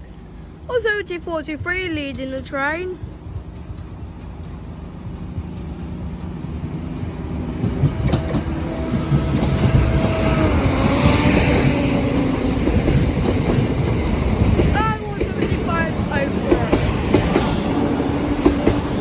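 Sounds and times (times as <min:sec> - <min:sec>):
diesel train engine hum: 0:00.0 - 0:19.0
train wheels clacking on rails: 0:03.0 - 0:19.0.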